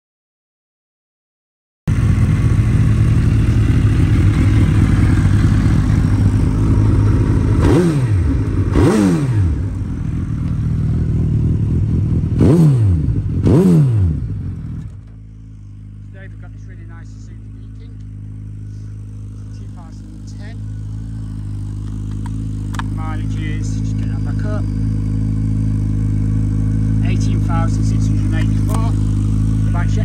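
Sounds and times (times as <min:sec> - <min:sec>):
motorcycle engine idling and revving: 0:01.9 - 0:30.0.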